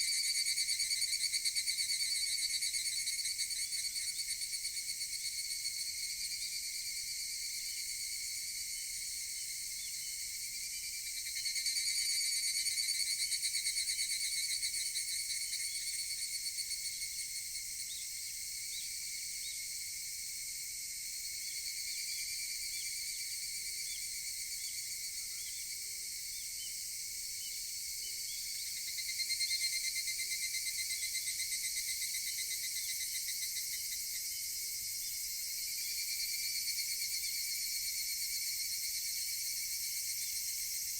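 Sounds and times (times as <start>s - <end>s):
cicadas calling in chorus: 0.0s - 40.9s.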